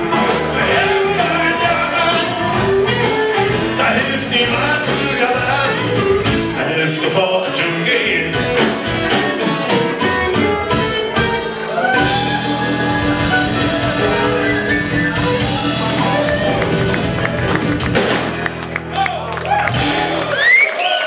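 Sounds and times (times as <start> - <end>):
live rock band playing: 0.0 - 20.8.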